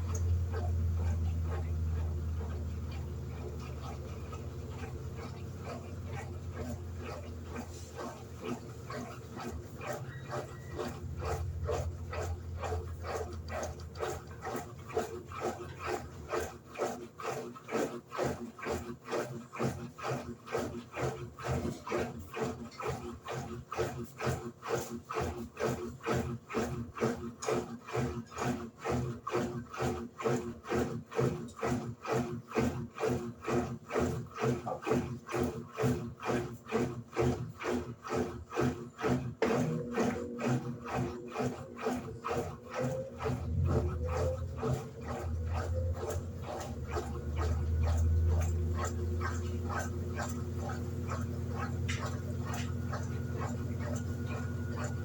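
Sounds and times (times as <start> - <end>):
low motor hum: 0.0 - 18.3, 28.4 - 55.0
washing machine sloshing: 0.0 - 55.0
water and clothes swishing: 0.0 - 55.0.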